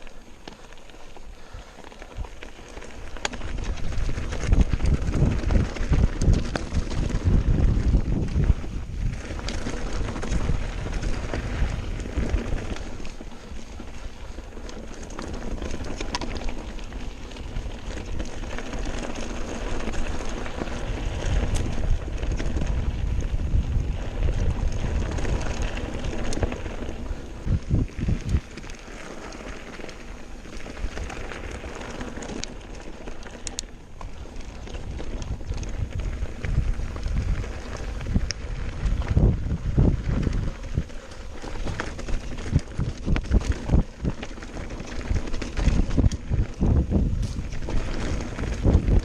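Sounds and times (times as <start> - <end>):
bike rattling: 0.0 - 49.0
wind noise on microphone: 1.2 - 49.0.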